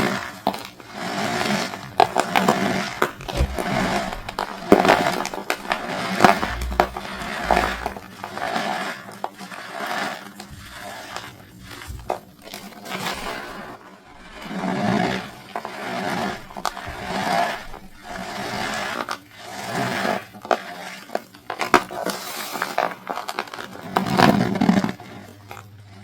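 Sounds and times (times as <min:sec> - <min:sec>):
cornstarch bricks crunching: 0:00.0 - 0:25.7.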